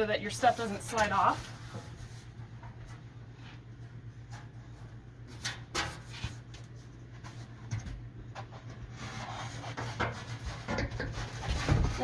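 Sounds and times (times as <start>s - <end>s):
rustling handling noise: 0.0s - 12.0s
steady low hum: 0.0s - 12.0s.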